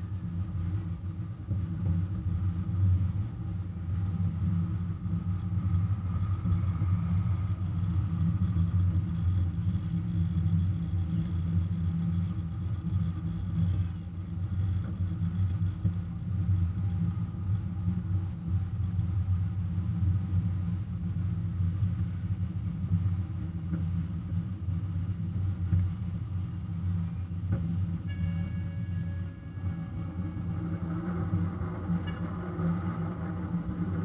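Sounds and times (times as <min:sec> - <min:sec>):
miniature train engine rumble: 0:00.0 - 0:34.0.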